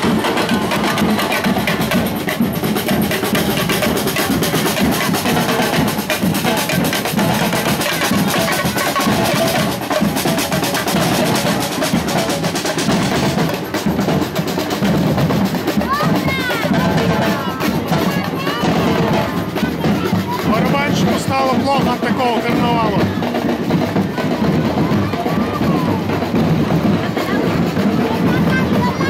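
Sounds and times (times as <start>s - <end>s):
drum band playing: 0.0s - 29.0s.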